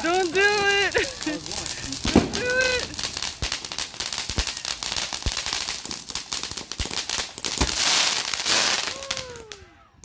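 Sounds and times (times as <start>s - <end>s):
sharp firework pops: 0.0s - 9.8s
firework fountain spraying and crackling: 0.0s - 10.0s.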